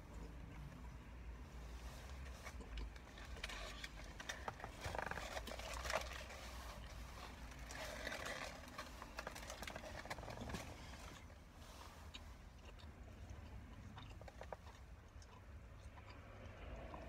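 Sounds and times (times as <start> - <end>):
low steady hum: 0.0 - 17.0
person chewing food: 0.0 - 17.0.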